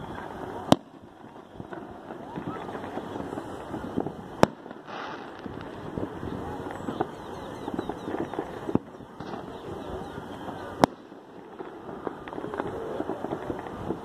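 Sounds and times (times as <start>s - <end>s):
loud firework bang: 0.0s - 7.1s, 7.7s - 14.0s
firecrackers popping and crackling: 0.0s - 14.0s.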